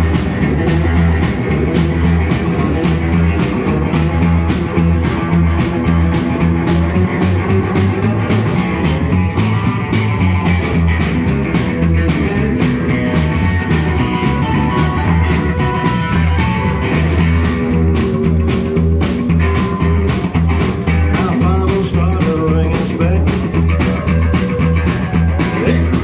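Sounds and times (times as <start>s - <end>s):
acoustic rhythm guitar: 0.0s - 26.0s
drum kit beat: 0.0s - 26.0s
electric guitar: 0.0s - 26.0s
upright double bass: 0.0s - 26.0s.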